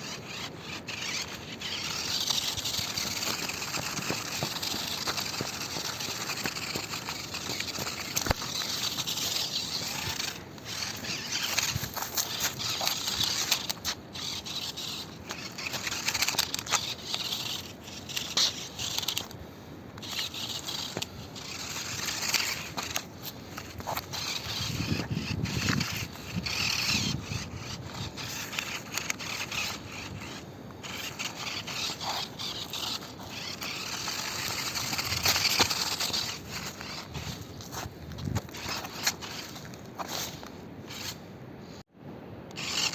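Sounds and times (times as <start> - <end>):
toy truck scraping over stones: 0.0 - 41.3, 42.6 - 42.9.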